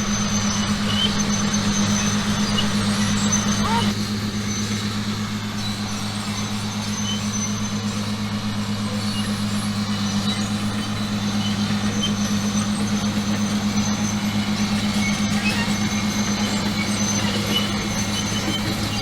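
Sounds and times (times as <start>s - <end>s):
trenching machine engine drone: 0.0s - 19.0s.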